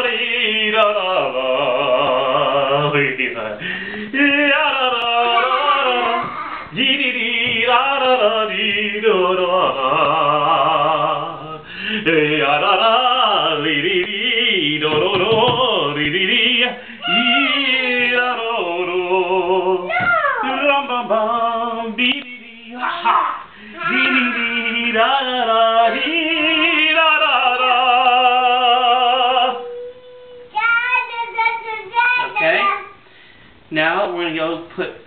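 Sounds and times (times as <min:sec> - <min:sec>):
voices singing a cappella: 0:00.0 - 0:30.6.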